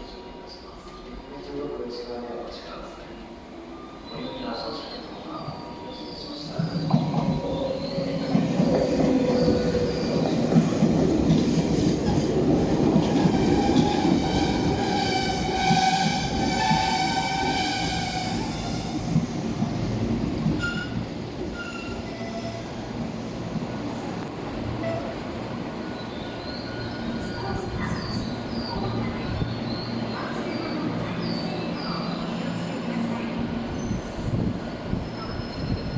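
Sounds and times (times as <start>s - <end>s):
train rumbling past: 5.4s - 35.9s.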